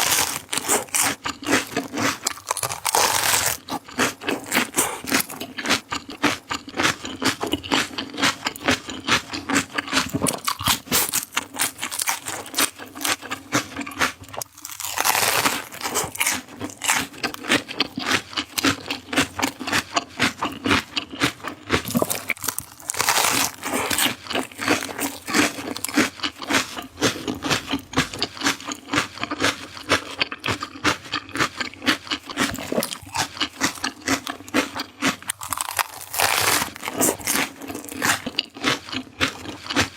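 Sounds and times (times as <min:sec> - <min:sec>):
crunching raw vegetables: 0:00.0 - 0:39.9.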